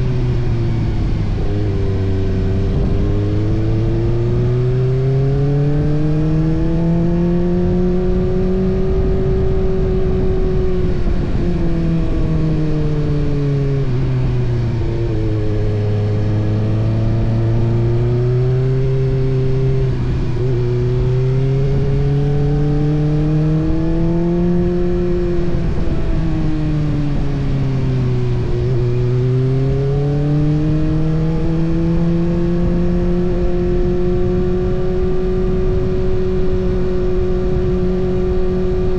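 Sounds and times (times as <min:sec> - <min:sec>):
motorcycle engine revving: 0:00.0 - 0:38.9
rushing wind and road noise: 0:00.0 - 0:38.9.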